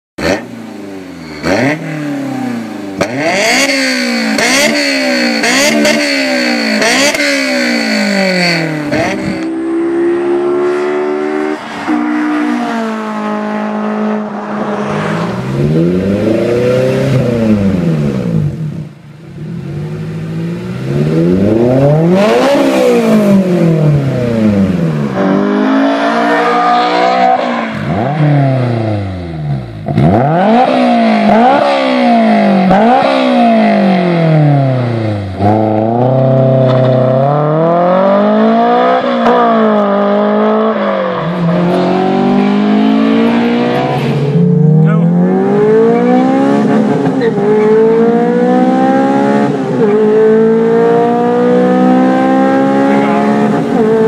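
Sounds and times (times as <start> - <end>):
car engine revving: 0.2 - 54.0.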